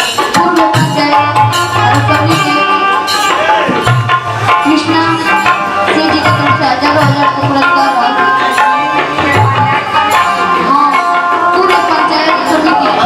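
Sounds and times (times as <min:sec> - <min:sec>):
tabla and drum strokes: 0:00.0 - 0:13.0.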